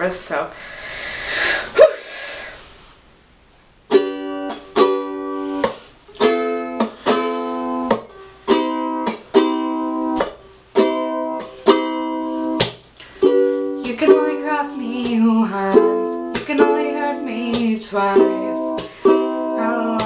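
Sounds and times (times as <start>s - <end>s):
ukulele strumming chords: 3.8s - 20.0s.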